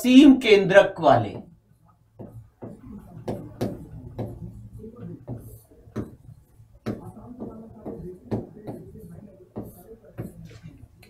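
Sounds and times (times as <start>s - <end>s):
marker pen writing on whiteboard: 1.0s - 11.0s.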